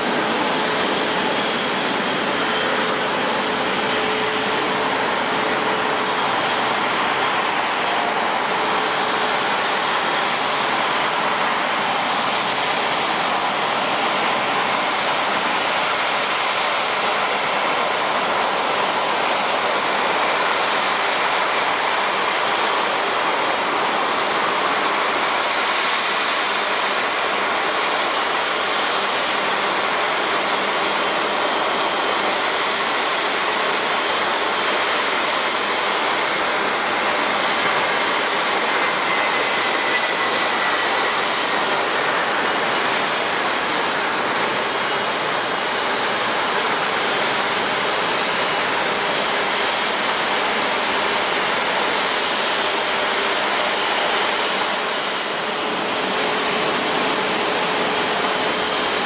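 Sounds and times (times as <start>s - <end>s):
jet engine hiss: 0.0s - 59.0s.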